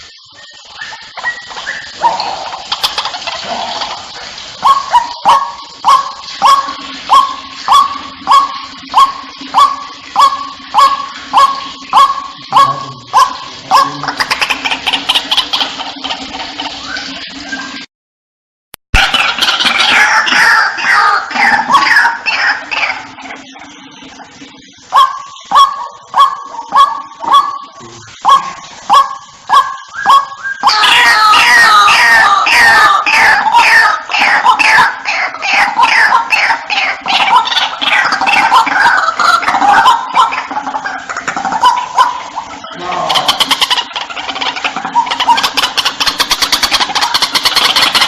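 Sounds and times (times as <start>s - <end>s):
waterhen harsh call notes: 0.0s - 17.9s, 19.0s - 48.0s.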